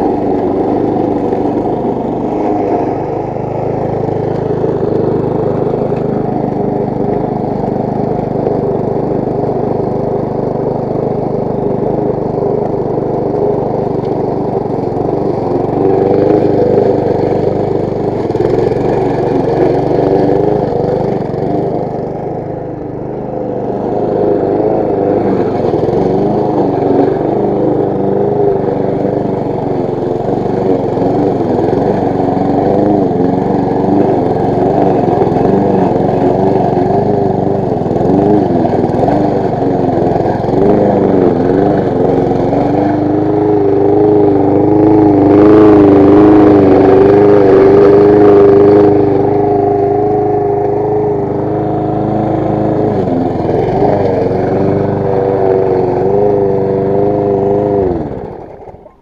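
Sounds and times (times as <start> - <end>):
lawn mower cutting grass: 0.0 - 59.0.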